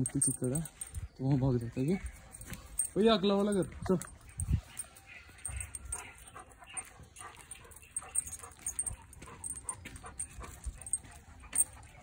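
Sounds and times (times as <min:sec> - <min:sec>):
dog panting: 0:00.0 - 0:12.0
metal chain leash clinking: 0:00.0 - 0:12.0.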